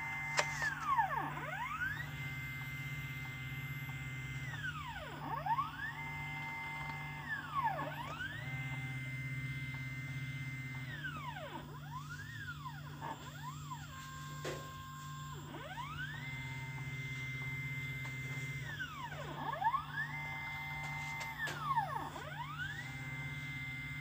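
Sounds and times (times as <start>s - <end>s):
stepper motors whining: 0.0s - 24.0s.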